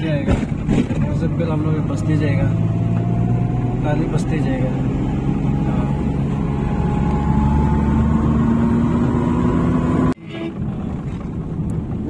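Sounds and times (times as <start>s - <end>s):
road noise inside car: 0.0s - 12.0s
car engine accelerating: 0.2s - 12.0s.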